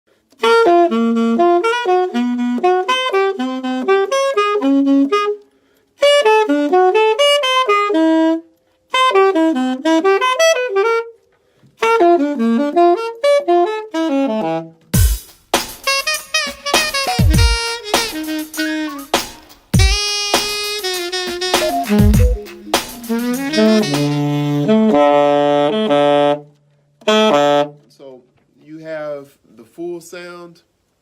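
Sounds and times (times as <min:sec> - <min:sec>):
alto saxophone solo: 0:00.2 - 0:28.1.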